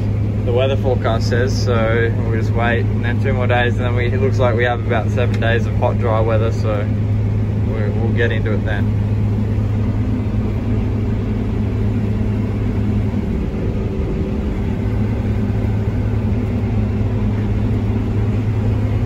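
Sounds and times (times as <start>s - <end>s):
combine harvester drone: 0.0s - 19.0s.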